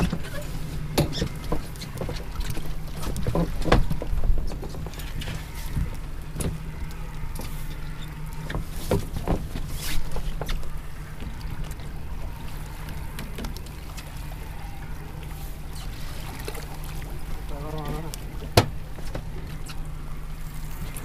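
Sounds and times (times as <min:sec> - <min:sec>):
knocks and splashes: 0:00.0 - 0:07.6, 0:08.3 - 0:21.0
steady low rumble: 0:00.0 - 0:21.0.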